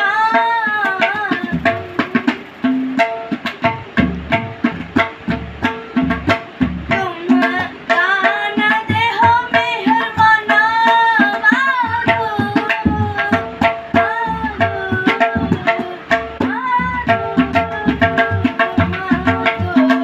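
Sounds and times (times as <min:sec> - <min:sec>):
tabla playing: 0:00.0 - 0:20.0.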